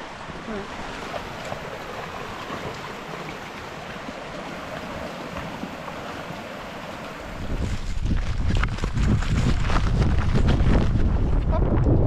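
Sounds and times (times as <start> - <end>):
rocky stream running: 0.0 - 11.7.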